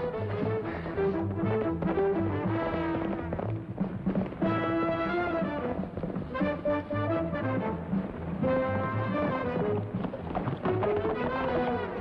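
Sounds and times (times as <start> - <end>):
dramatic orchestral music: 0.0 - 12.0.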